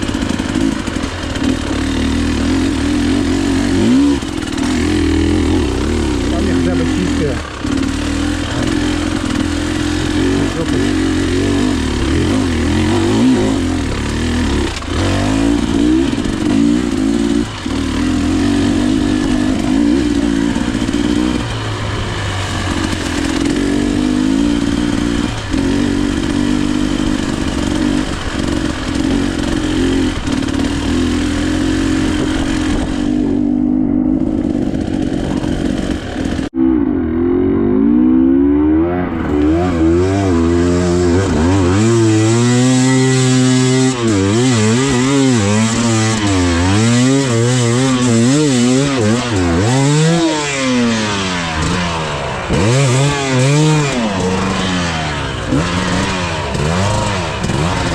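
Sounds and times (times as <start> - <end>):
two-stroke motorcycle engine revving: 0.0 - 57.9.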